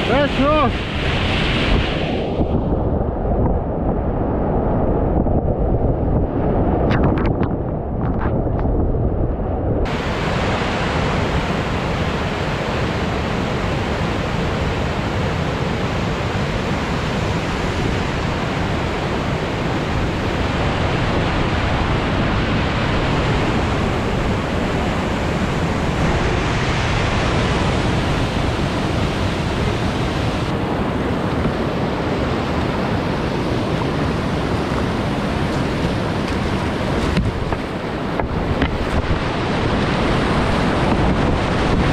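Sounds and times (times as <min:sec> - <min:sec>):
whitewater rapids rushing: 0:00.0 - 0:02.3, 0:09.9 - 0:41.9.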